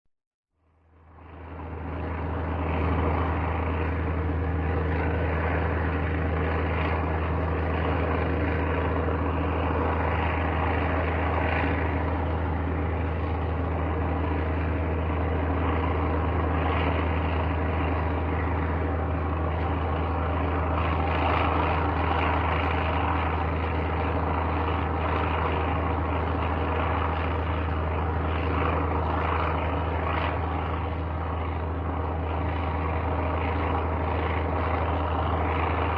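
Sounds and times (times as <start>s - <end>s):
airplane engine drone: 0.6s - 35.9s.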